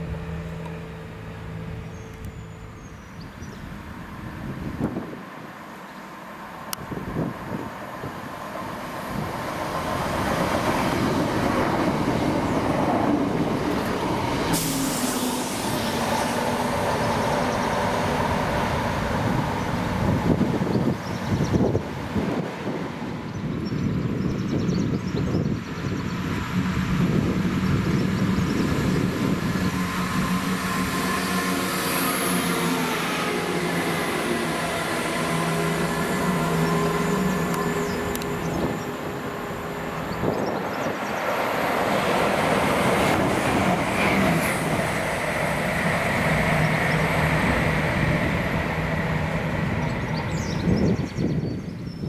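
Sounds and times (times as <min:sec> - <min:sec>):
diesel train engines droning: 0:00.0 - 0:52.0
train wheel and rail noise: 0:00.0 - 0:52.0.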